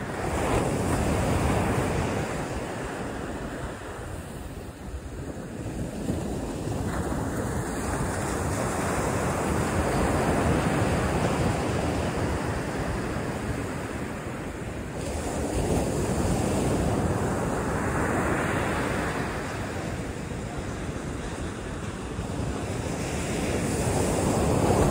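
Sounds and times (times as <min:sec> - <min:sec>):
ocean surf washing on beach: 0:00.0 - 0:24.9
wind on microphone: 0:00.0 - 0:24.9.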